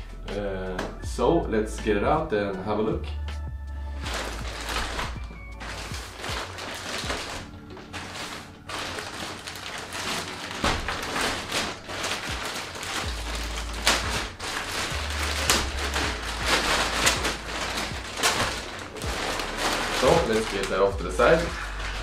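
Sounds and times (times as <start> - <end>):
plastic packaging crinkling: 4.0 - 22.0.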